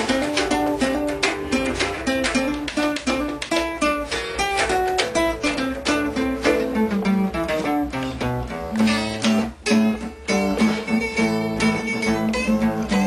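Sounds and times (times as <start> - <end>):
acoustic guitars strummed and picked: 0.0 - 13.0.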